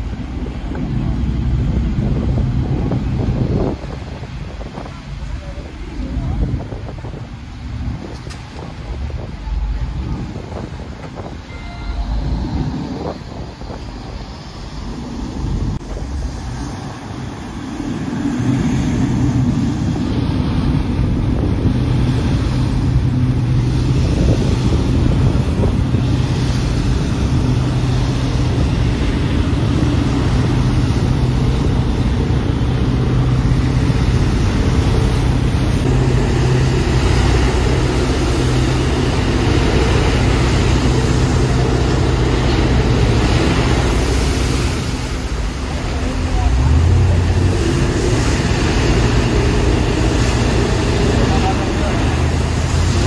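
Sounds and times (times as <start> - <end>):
boat engines humming: 0.0 - 53.0
water rushing at stern: 0.0 - 53.0.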